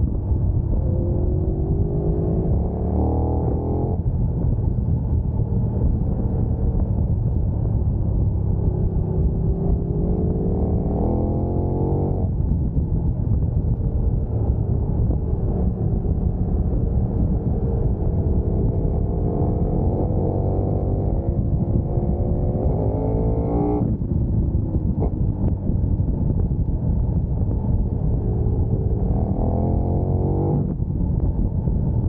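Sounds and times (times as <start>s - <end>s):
heavy low rumble: 0.0s - 32.0s
motorcycle engine accelerating hard: 0.0s - 32.0s.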